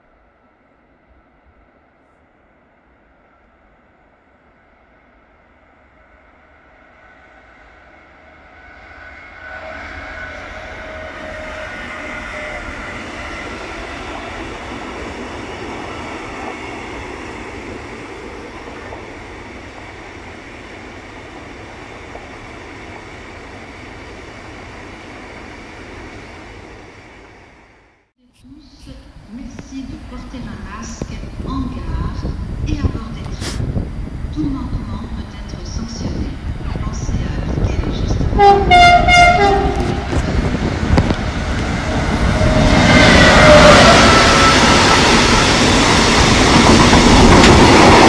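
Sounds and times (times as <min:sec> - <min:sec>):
freight train passing: 0:00.0 - 0:48.0.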